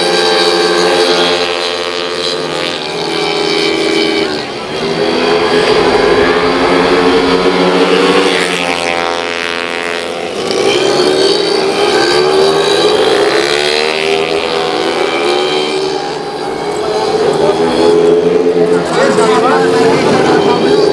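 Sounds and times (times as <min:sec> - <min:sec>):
scooter engines buzzing past: 0:00.0 - 0:20.9.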